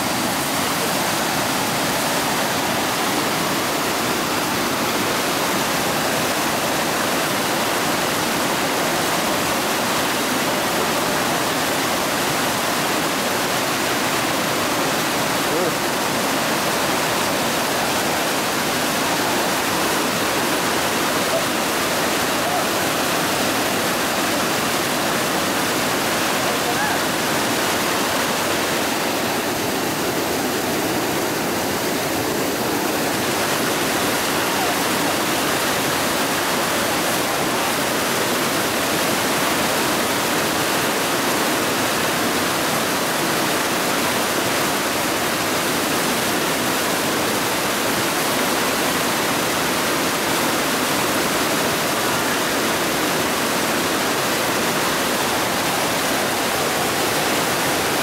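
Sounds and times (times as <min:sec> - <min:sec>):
water cascading into pool: 0:00.0 - 0:58.0.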